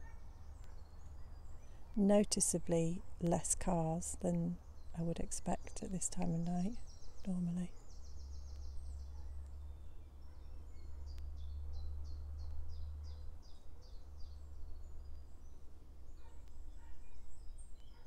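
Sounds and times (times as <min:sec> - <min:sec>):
other birds calling faintly: 0:00.0 - 0:18.0.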